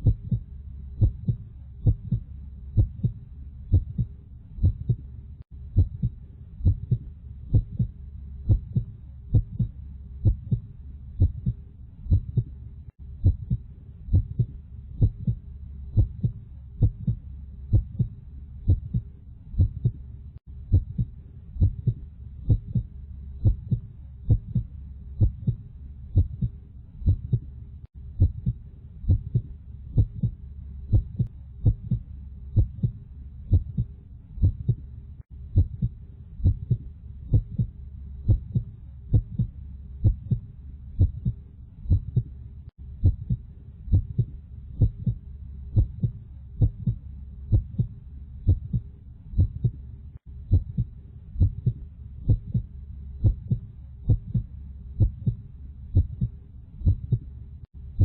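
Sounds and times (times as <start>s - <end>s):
heartbeat double thump: 0.0s - 5.1s, 5.7s - 12.5s, 13.2s - 19.0s, 19.6s - 20.0s, 20.7s - 27.5s, 28.2s - 34.8s, 35.6s - 42.3s, 43.0s - 45.2s, 45.8s - 48.8s, 49.4s - 49.8s, 50.5s - 57.3s
low steady hum: 0.0s - 58.0s.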